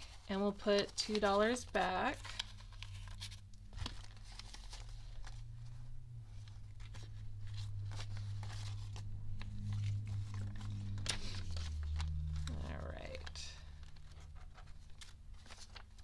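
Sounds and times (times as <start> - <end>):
steady low hum: 0.0 - 15.8
banknotes rustling and flicking: 0.0 - 16.0.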